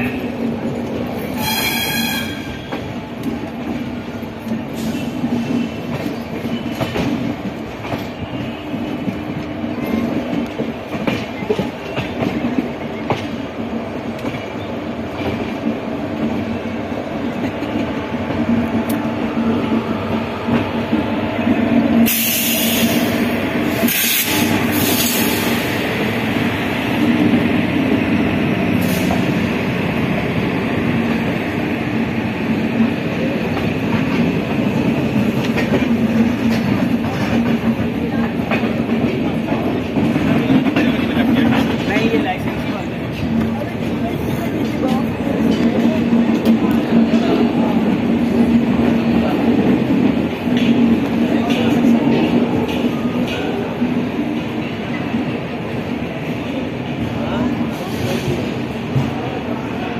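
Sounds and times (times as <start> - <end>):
train rumble with wheel clatter: 0.0 - 59.9.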